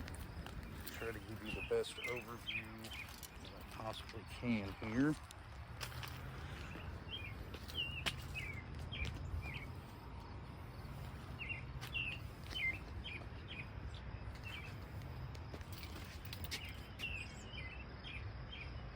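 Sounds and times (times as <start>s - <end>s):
small songbird chirping: 0.0s - 5.4s, 6.3s - 18.9s.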